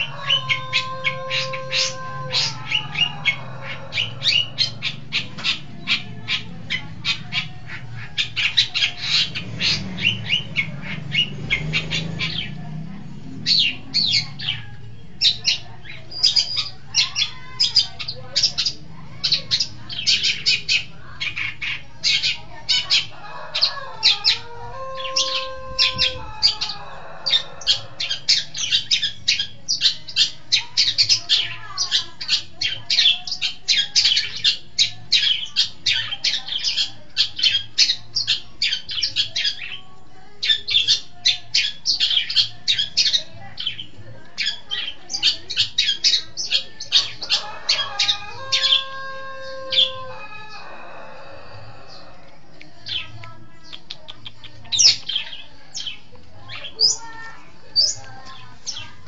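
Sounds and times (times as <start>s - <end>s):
bird chattering calls: 0.0s - 12.7s, 13.3s - 51.1s.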